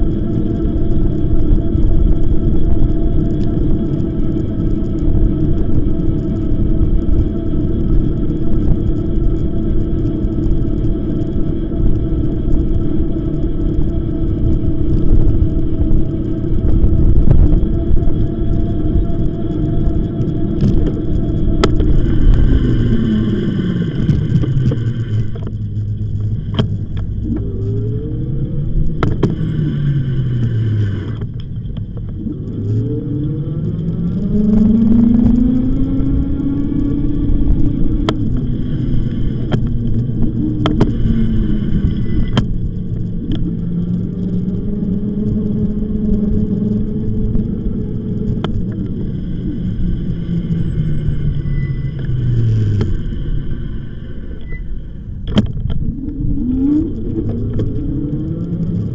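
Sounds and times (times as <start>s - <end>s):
electric bike motor whining: 0.0s - 58.9s
wind rumble on microphone: 0.0s - 58.9s.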